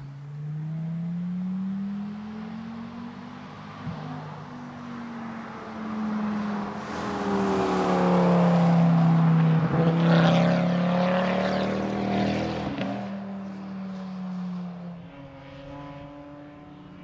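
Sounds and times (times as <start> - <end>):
car engine driving past: 0.0 - 17.0.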